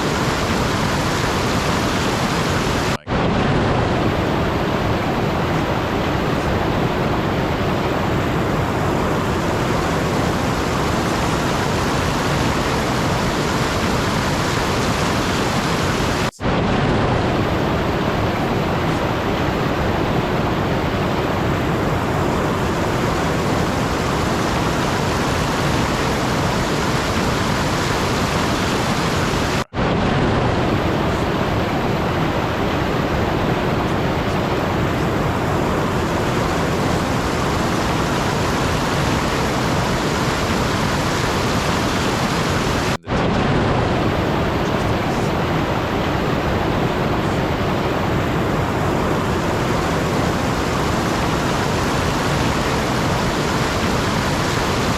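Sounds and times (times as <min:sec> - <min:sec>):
steady rushing noise: 0:00.0 - 0:54.9.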